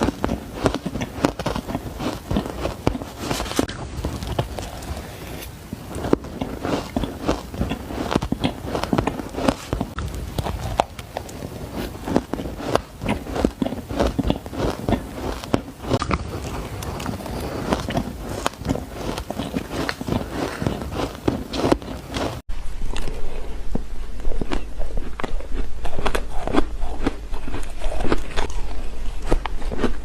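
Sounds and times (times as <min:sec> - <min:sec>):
chewing crunchy ice: 0:00.0 - 0:22.4, 0:24.4 - 0:30.0.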